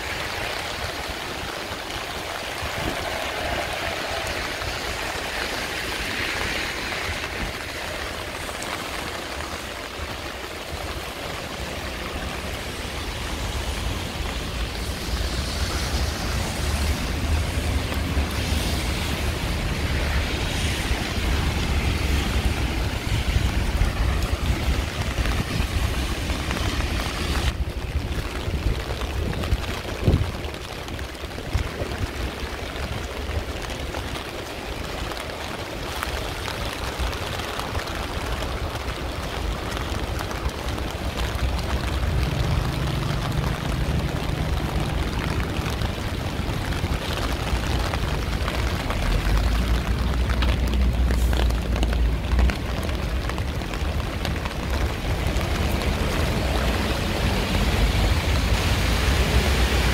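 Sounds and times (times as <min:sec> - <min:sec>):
heavy rain on a street: 0:00.0 - 0:59.9.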